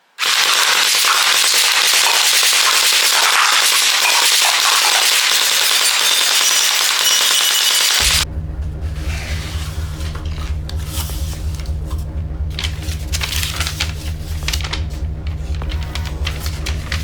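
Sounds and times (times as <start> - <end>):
dense crackle of rapid pops: 0.2 - 17.0.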